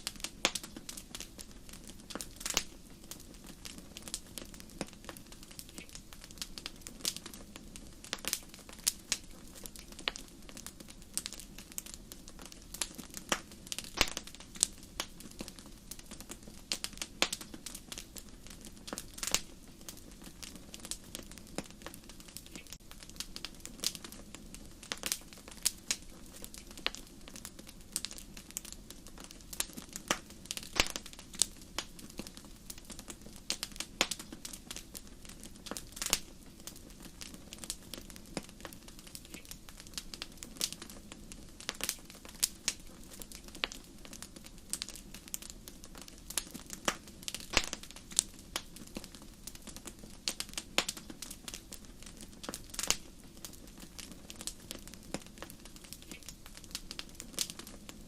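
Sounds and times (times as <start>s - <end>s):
soft hiss of flames: 0.0s - 58.0s
wood fire crackling: 0.0s - 58.0s.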